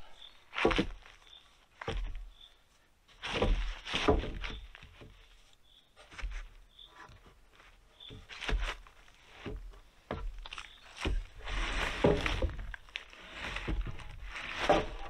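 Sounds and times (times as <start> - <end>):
footsteps on logs: 0.0 - 15.0
wooden poles knocking and thudding: 0.5 - 2.5, 3.1 - 15.0.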